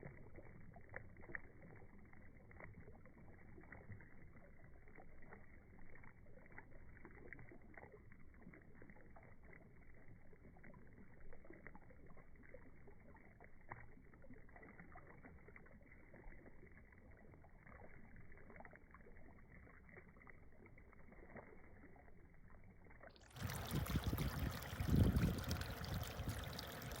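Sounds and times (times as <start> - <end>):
fountain water noise: 0.0 - 27.0
slowed muffled water burble: 0.0 - 27.0.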